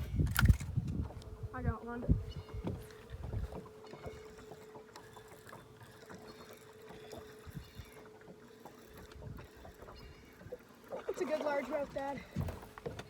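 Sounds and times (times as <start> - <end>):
gear clicking in a boat: 0.0 - 13.0.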